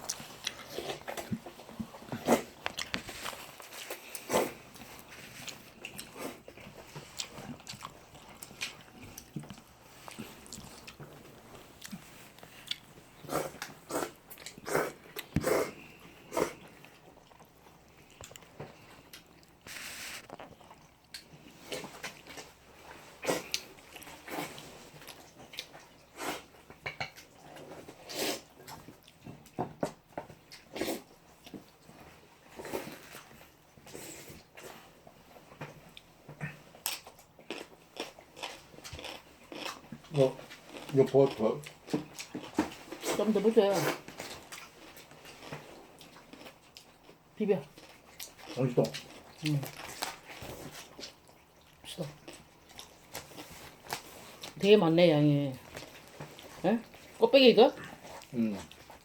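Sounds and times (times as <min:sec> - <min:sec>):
chewing: 0:00.0 - 0:54.6, 0:55.5 - 0:59.0.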